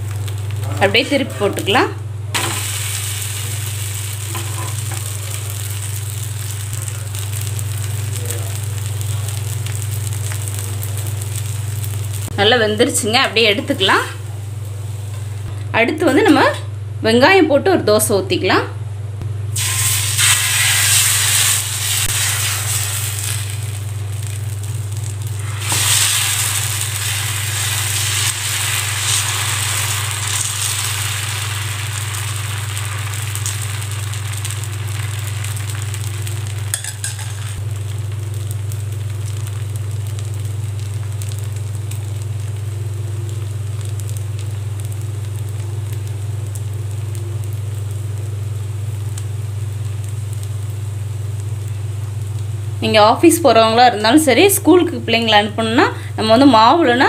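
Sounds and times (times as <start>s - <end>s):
batter sizzling on a hot griddle: 0.0s - 15.4s, 19.5s - 57.0s
steady low hum: 0.0s - 57.0s.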